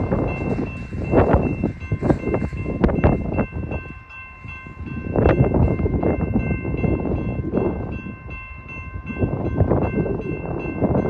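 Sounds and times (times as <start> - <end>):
crossing signal bell ringing: 0.0 - 11.0
freight train rumble: 0.0 - 11.0
train cars clanking on rails: 0.0 - 11.0.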